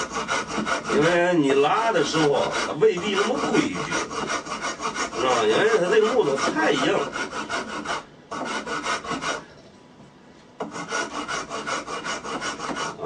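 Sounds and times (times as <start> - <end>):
metal file scraping hardwood: 0.0 - 9.5, 10.6 - 13.0.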